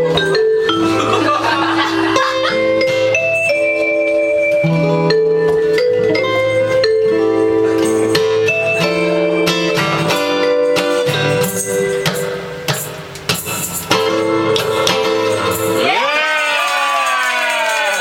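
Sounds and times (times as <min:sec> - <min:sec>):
ragtime blues on keyboard: 0:00.0 - 0:15.9
plucked string instrument: 0:00.0 - 0:16.0.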